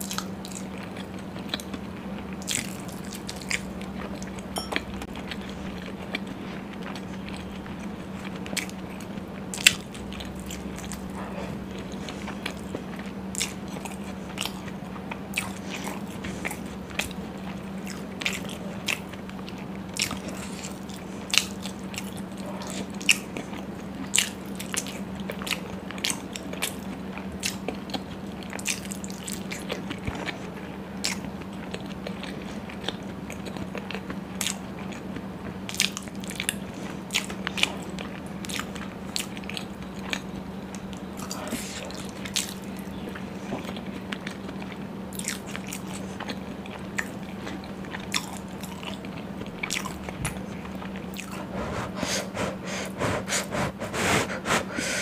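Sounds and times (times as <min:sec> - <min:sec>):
biting and chewing with mouth clicks: 0:00.0 - 0:55.0
steady low hum: 0:00.0 - 0:55.0.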